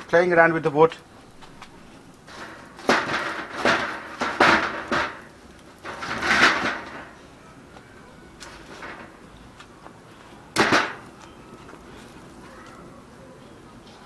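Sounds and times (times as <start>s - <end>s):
firewood scraping and knocking: 0.0s - 12.8s.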